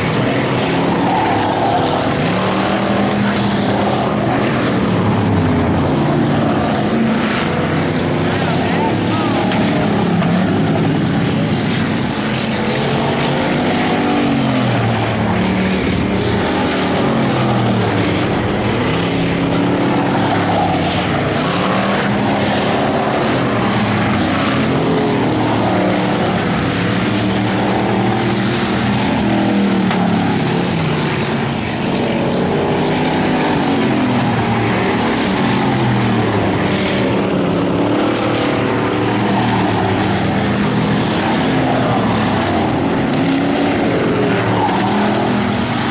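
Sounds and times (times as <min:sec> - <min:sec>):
race car engines accelerating: 0:00.0 - 0:45.9.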